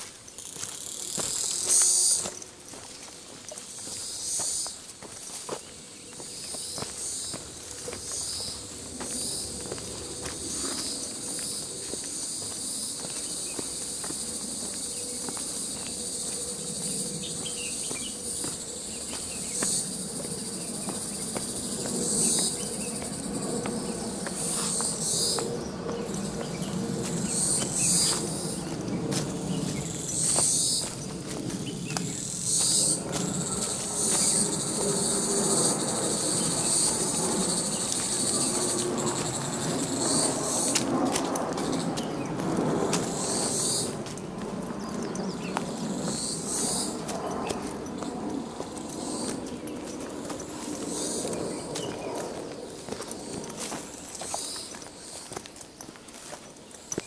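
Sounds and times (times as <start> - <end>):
footsteps on dirt trail: 0.0 - 57.0
insects chirping: 0.0 - 57.0.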